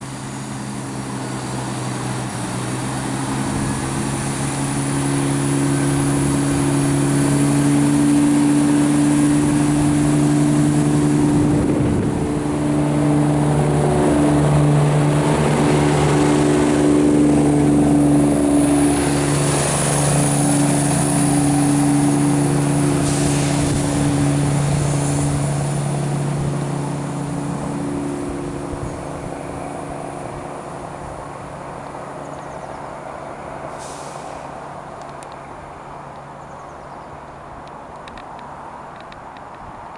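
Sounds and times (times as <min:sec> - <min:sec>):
diesel train engine humming: 0:00.0 - 0:39.9.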